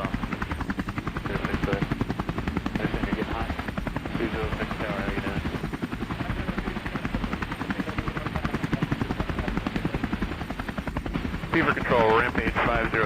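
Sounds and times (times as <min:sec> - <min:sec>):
helicopter rotor chopping: 0:00.0 - 0:13.0.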